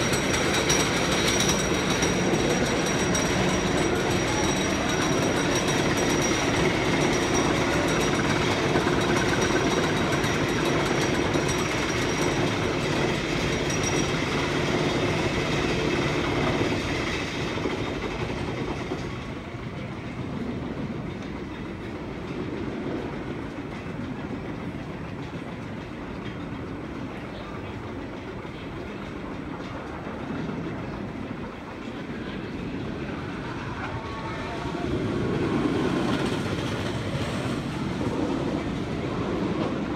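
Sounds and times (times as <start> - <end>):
roller coaster wheels on track: 0.0 - 39.9.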